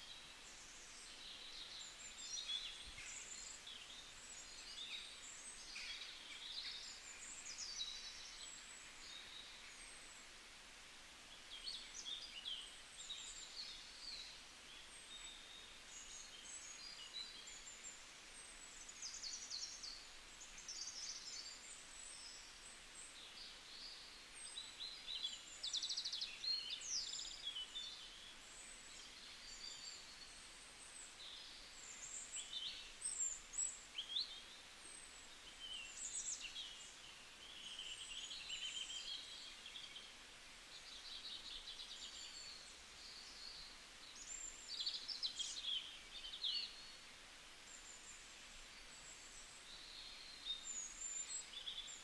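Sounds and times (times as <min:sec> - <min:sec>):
faint steady hiss: 0:00.0 - 0:52.0
small birds chirping: 0:00.0 - 0:52.0.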